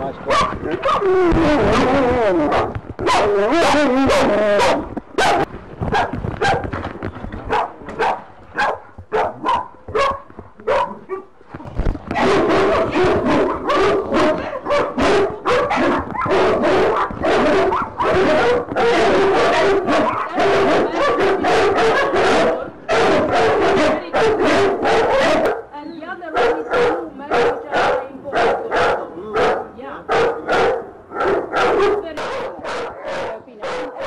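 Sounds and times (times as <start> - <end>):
dogs barking and yelping: 0.2 - 6.7, 7.5 - 11.3, 12.1 - 25.7, 26.3 - 34.0.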